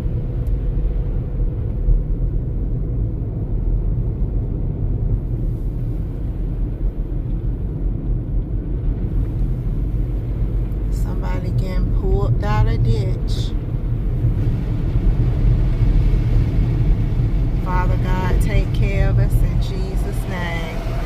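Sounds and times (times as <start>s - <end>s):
car driving on highway: 0.0s - 21.0s.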